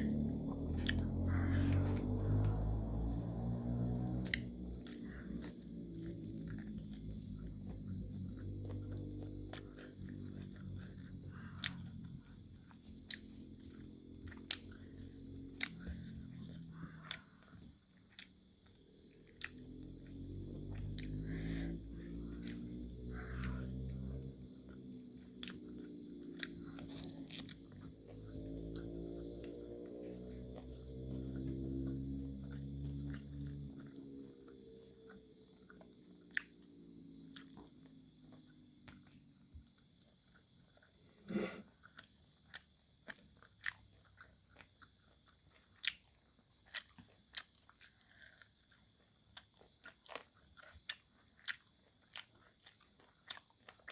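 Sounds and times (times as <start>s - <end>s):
chewing and mouth clicks: 0.0s - 53.9s
crickets chirring: 0.0s - 53.9s.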